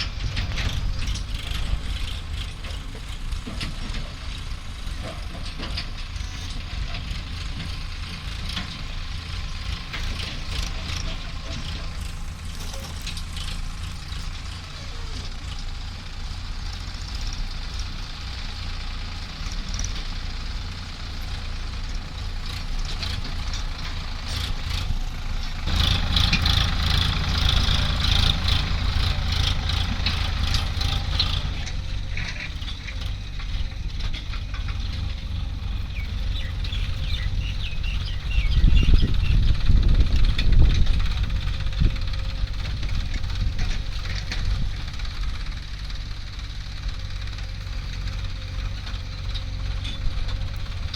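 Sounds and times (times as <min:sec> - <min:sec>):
diesel machinery engine rumbling: 0:00.0 - 0:50.9.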